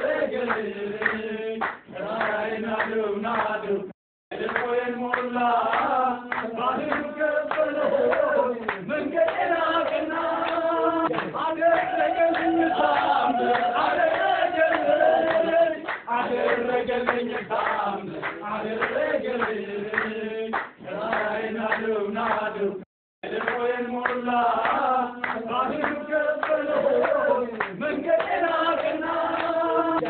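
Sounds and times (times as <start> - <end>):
handclaps: 0.0 - 22.5, 23.3 - 30.0
group of voices singing: 0.0 - 30.0.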